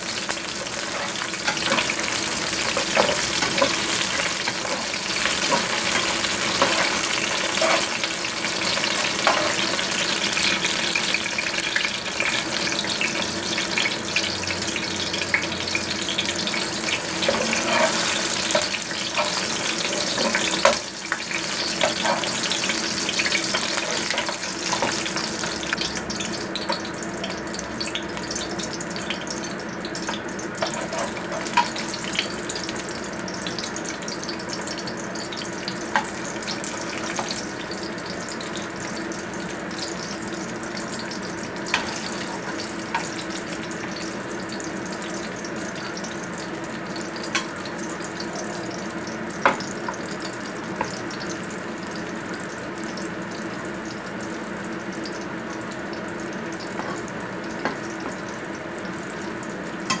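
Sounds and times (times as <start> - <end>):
fish sizzling in hot oil: 0.0 - 60.0.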